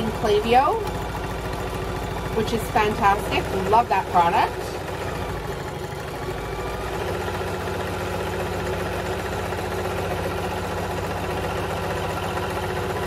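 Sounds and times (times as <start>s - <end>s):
electric sewing machine running: 0.0s - 13.0s.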